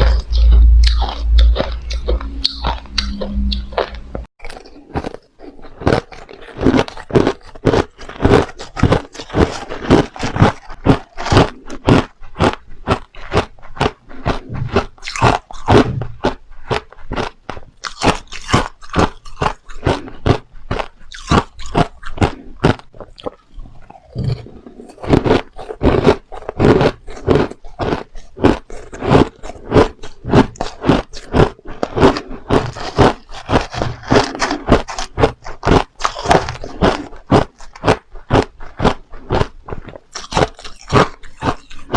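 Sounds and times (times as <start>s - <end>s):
crunching ice chewing: 0.0s - 41.9s.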